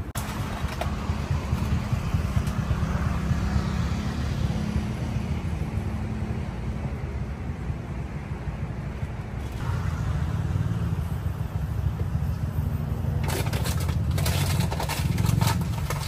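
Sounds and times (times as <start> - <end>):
traffic rumble: 0.0 - 16.0
vehicle passing: 0.0 - 16.0.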